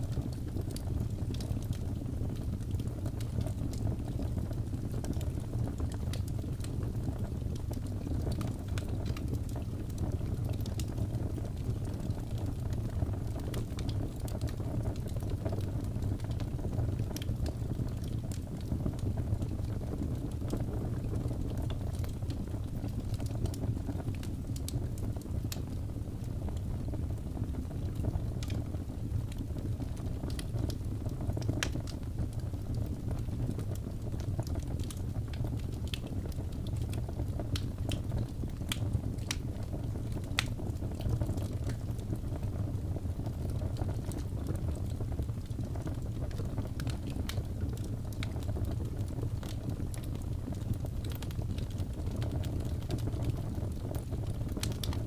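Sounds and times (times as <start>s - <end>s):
burning logs crackling: 0.0s - 55.0s
low rumble of flames: 0.0s - 55.0s.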